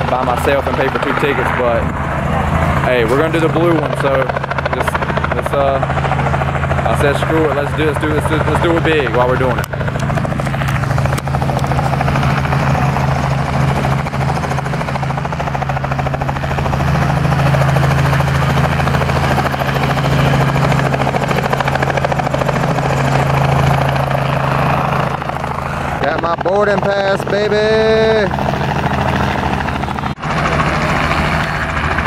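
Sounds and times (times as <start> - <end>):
helicopter rotor and engine: 0.0 - 32.0.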